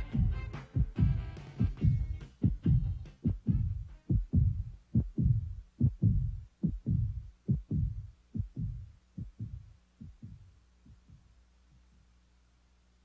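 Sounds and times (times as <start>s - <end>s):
heartbeat thumps: 0.0s - 11.4s.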